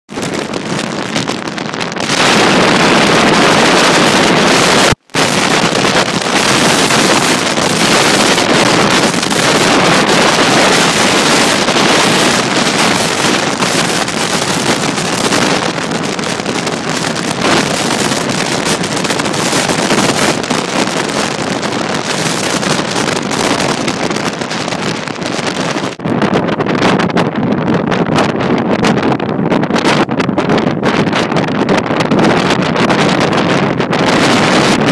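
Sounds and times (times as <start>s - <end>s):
wind blasting microphone: 0.1s - 34.9s.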